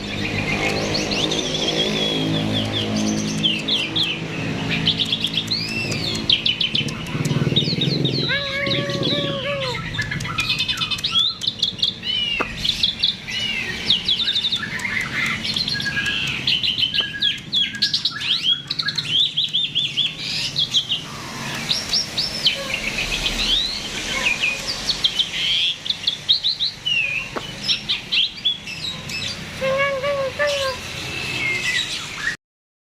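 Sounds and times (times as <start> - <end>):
starling singing: 0.0 - 32.4.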